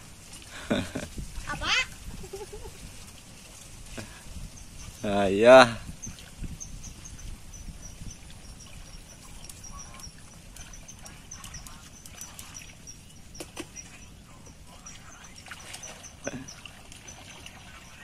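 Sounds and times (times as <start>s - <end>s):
light water splashes: 0.0s - 18.0s.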